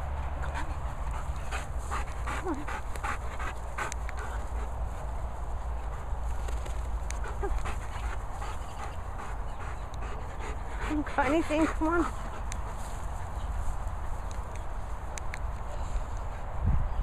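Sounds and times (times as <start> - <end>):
dog panting: 0.0 - 15.2.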